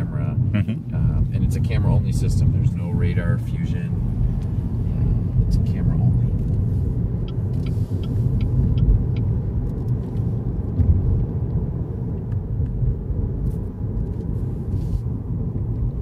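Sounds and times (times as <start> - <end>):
car cabin tyre and engine rumble: 0.0 - 16.0.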